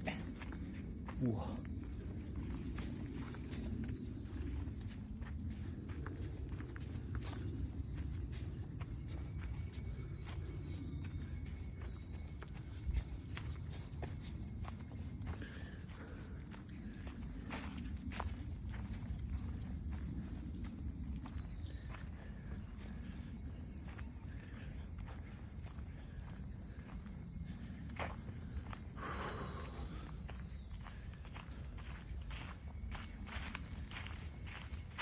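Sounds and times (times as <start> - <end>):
footsteps on forest trail: 0.0 - 35.0
high-pitched insect drone: 0.0 - 35.0.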